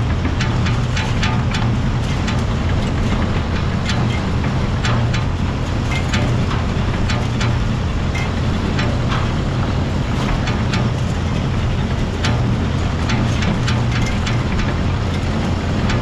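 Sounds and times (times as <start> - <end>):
sharp ticks and rattles: 0.0 - 16.0
tractor engine running: 0.0 - 16.0.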